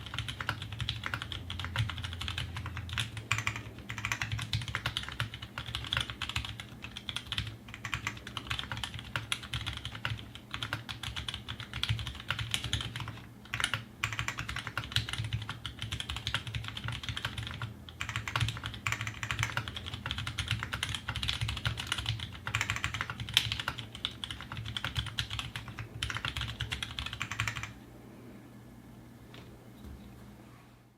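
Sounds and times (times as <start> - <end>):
fast mechanical keyboard typing: 0.0 - 27.8.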